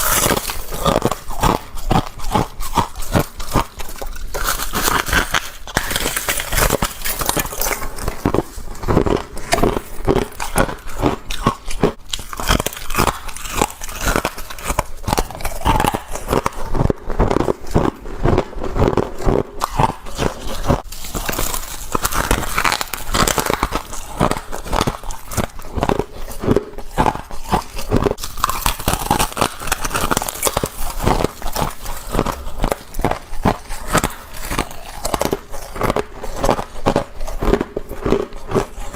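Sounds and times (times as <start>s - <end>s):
person chewing ice crunching: 0.0s - 38.9s.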